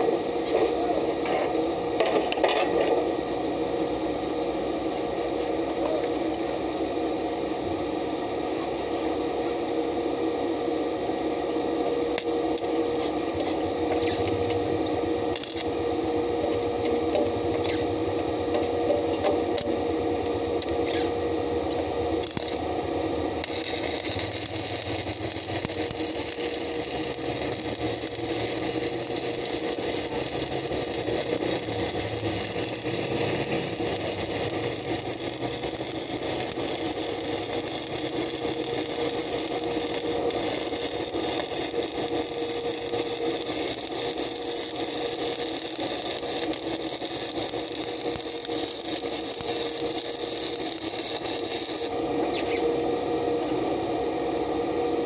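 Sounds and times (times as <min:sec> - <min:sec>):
welding arc crackling and hissing: 0:00.0 - 0:10.4, 0:11.3 - 0:54.4
steady machine hum: 0:00.0 - 0:55.0.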